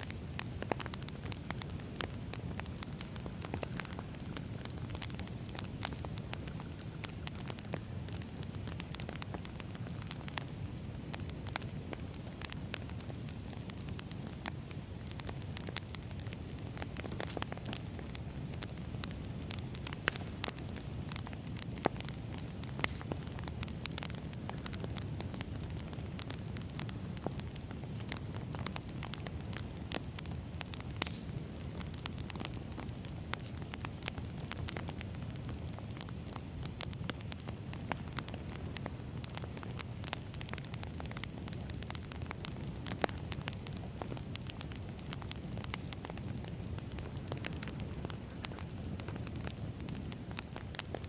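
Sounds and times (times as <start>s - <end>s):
sharp fire pops: 0.0s - 51.0s
wood fire crackling: 0.0s - 51.0s.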